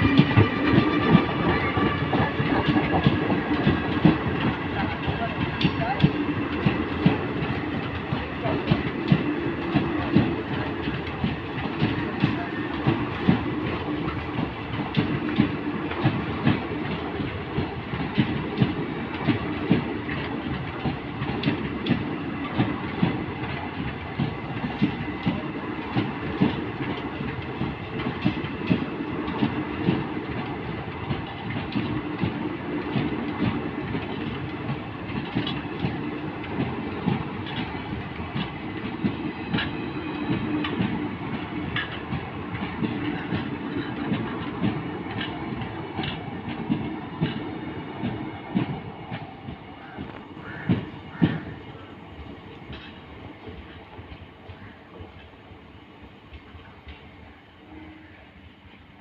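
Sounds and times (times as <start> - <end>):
train wheels clacking over rail joints: 0.0 - 58.0
train rolling rumble: 0.0 - 59.0.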